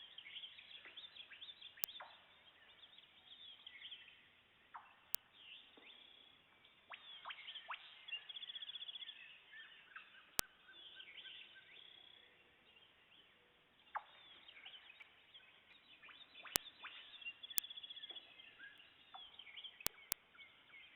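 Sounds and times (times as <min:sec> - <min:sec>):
birdsong: 0:00.0 - 0:20.9.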